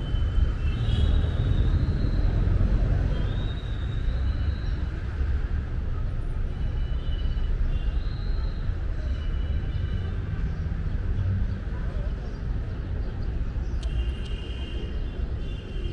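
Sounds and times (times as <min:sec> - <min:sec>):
low street rumble: 0:00.0 - 0:15.9.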